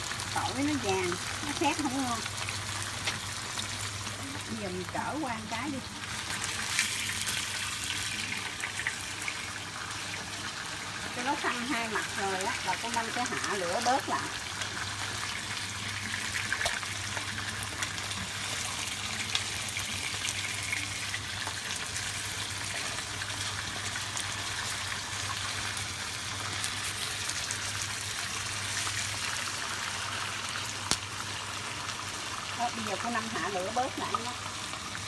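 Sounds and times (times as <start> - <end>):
fish sizzling in hot oil: 0.0 - 35.0.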